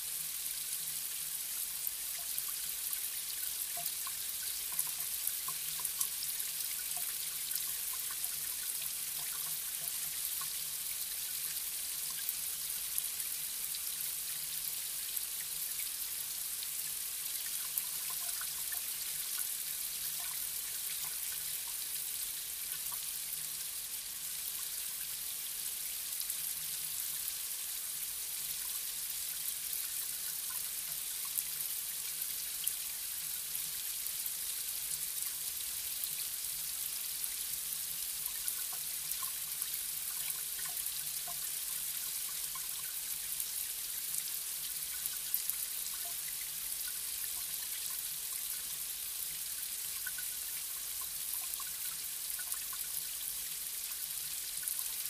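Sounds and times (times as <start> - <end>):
water drips and splashes: 0.1 - 55.0.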